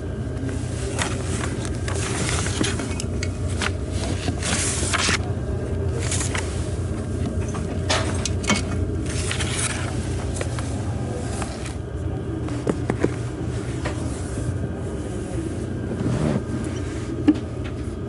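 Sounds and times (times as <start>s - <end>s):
train rumble inside cabin: 0.0s - 18.0s.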